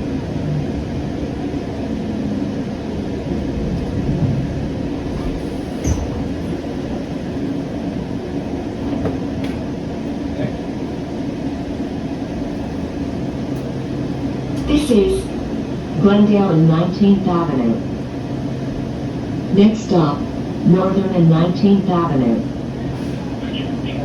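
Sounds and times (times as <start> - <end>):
constant hum: 0.0 - 24.0
rail car wheels rumbling: 0.0 - 24.0.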